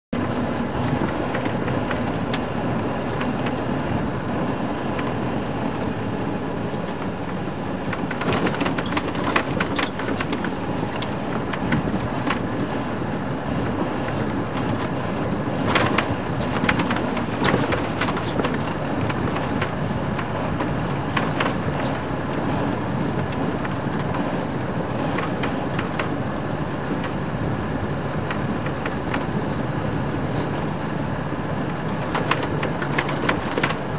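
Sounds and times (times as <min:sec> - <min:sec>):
vehicle engine and road noise: 0:00.1 - 0:33.9
vehicle rattling over bumps: 0:00.2 - 0:33.9.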